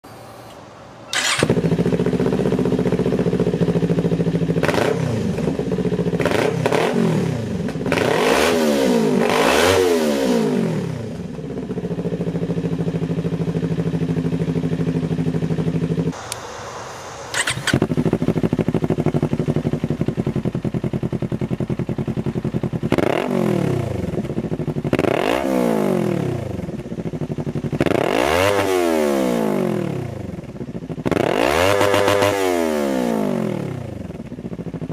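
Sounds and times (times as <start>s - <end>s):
motorcycle engine revving: 1.1s - 16.3s, 17.3s - 34.9s.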